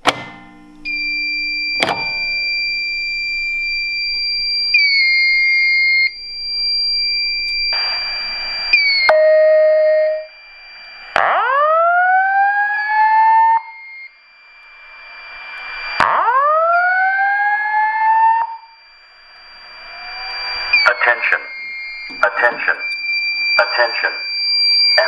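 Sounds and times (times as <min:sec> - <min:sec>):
harsh noisy alarm signal: 0:00.0 - 0:25.0
high electronic alarm tone: 0:00.8 - 0:25.0.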